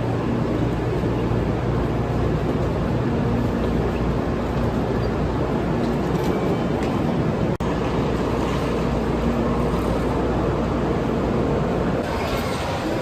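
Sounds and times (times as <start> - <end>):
train rumbling and rushing: 0.0 - 13.0.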